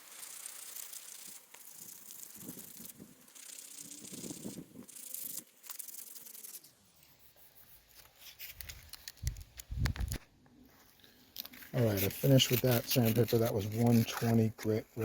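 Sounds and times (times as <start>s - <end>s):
sandpaper scraping: 0.0s - 9.4s, 11.7s - 14.4s.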